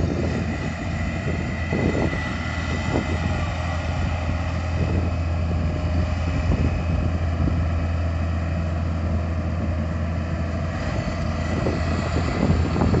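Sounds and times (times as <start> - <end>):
harvester engine humming: 0.0 - 13.0.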